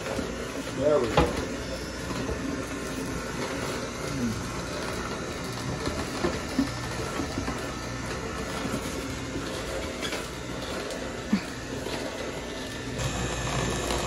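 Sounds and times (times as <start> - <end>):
juicer motor hum: 0.0 - 14.0
juicer squeaks: 0.0 - 14.0.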